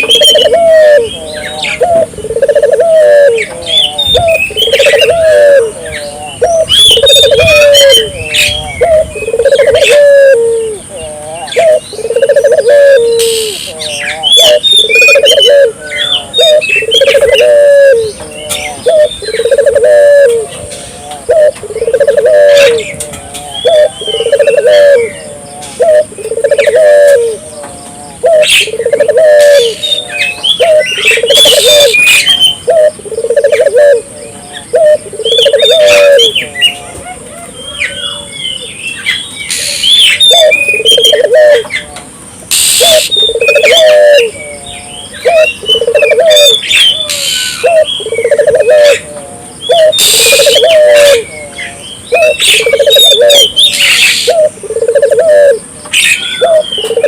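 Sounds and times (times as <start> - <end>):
dove cooing: 0.0 - 38.7, 39.5 - 42.0, 42.6 - 57.0
small birds chirping: 0.0 - 57.0.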